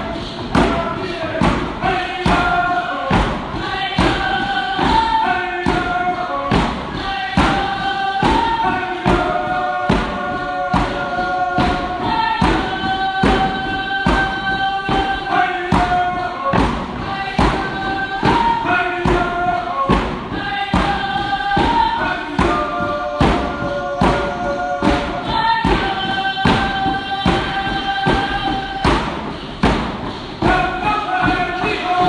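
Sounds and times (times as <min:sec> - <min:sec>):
group singing in unison: 0:00.0 - 0:32.0
hand drums beating: 0:00.0 - 0:32.0.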